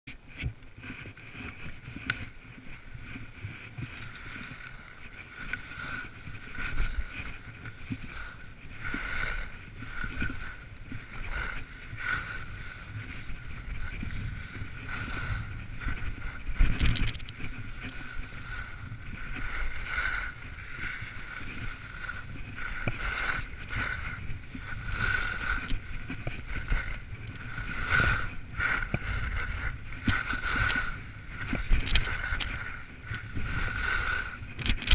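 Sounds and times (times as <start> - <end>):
wind buffeting microphone: 0.1 - 34.9
snowboards carving through snow: 0.3 - 34.6.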